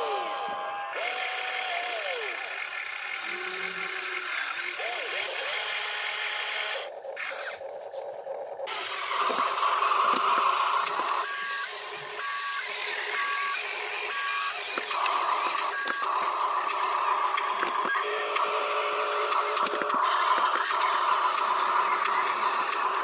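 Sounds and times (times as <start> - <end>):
toy vehicle electric drive whining: 0.0 - 7.8, 8.6 - 23.0.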